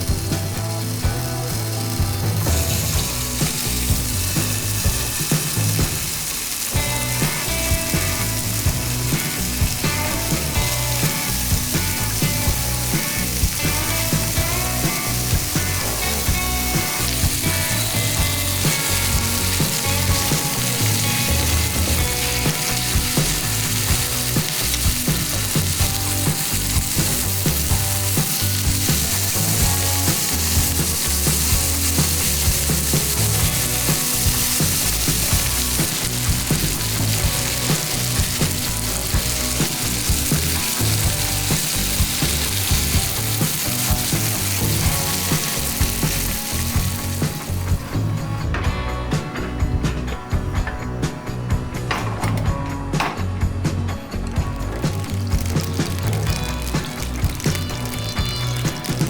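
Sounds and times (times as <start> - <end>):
chicken sizzling: 0.0 - 51.9, 52.5 - 59.0.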